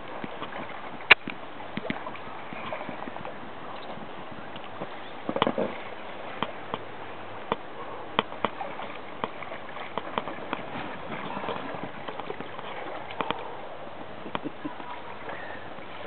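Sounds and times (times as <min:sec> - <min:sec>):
small splashes of water: 0:00.0 - 0:16.0.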